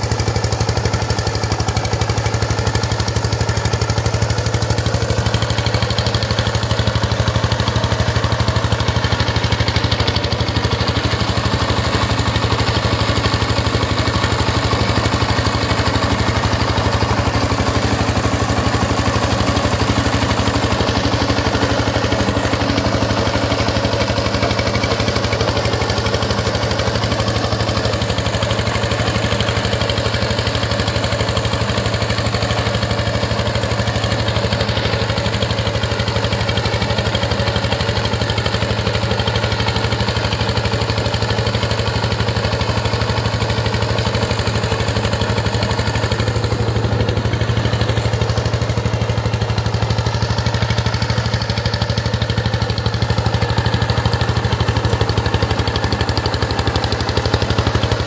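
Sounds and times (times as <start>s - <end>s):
diesel engine chugging: 0.0s - 58.0s
rotary tiller working soil: 0.0s - 58.0s.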